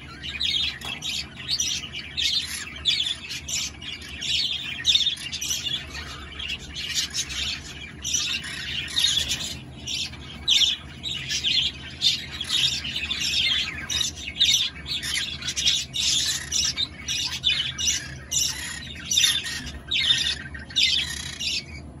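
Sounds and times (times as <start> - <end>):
parrots squawking and chirping: 0.0 - 22.0.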